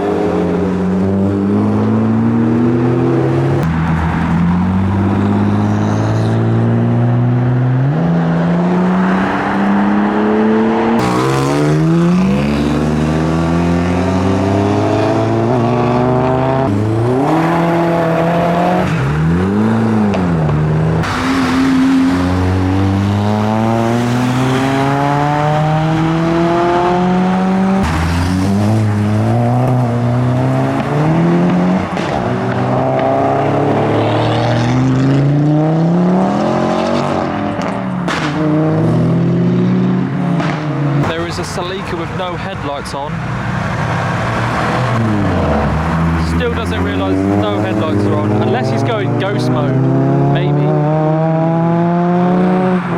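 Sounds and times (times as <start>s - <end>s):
cars accelerating hard: 0.0s - 52.9s
engine revving: 0.0s - 52.9s.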